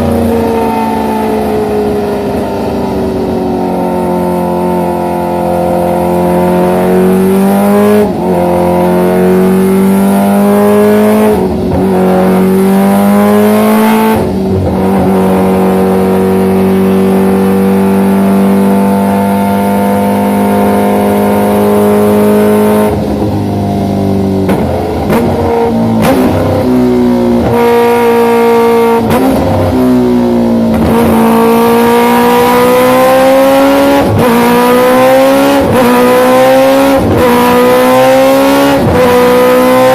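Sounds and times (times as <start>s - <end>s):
motorcycle exhaust at high revs: 5.4s - 39.9s.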